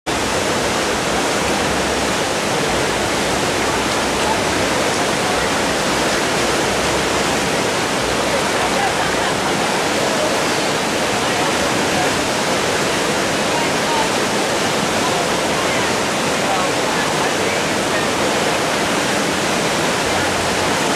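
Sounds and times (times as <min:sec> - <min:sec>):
river rapids rushing: 0:00.1 - 0:20.9.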